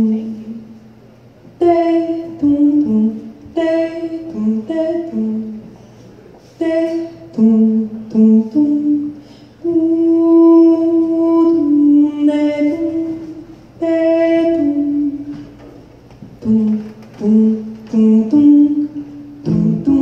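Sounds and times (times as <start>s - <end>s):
woman singing jazz unaccompanied: 0.0s - 20.0s.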